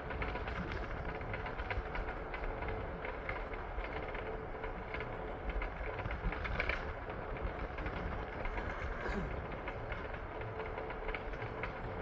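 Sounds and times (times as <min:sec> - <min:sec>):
train car rumbling on track: 0:00.0 - 0:12.0.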